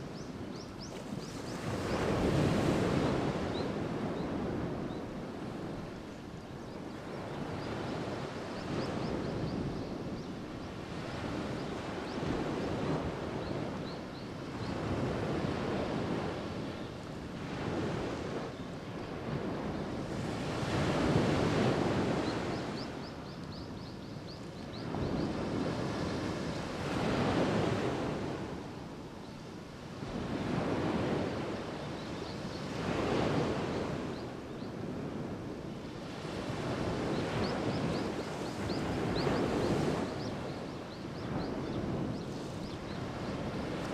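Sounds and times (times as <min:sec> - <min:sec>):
waves breaking on shore: 0:00.0 - 0:23.6, 0:24.2 - 0:43.9.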